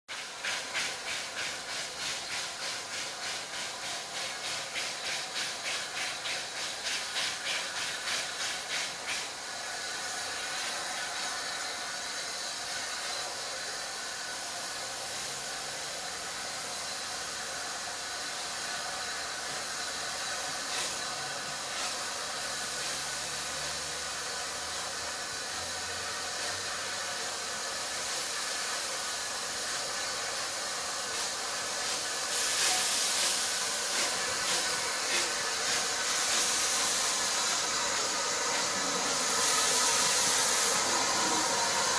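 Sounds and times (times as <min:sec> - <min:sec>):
steam hissing: 0:00.1 - 0:41.9
steam locomotive exhaust beats: 0:00.1 - 0:41.9.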